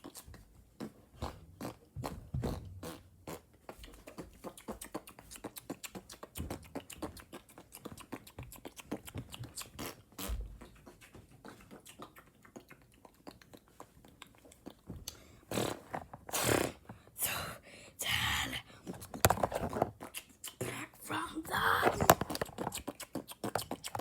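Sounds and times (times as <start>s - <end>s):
wet tongue and lip clicks: 0.0s - 16.8s, 18.9s - 21.1s, 22.0s - 24.0s.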